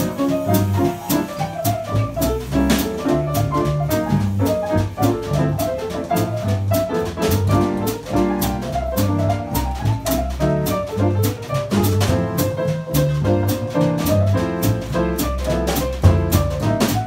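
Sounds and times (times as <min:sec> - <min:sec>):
double bass walking: 0:00.0 - 0:17.0
jazz melody line: 0:00.0 - 0:17.0.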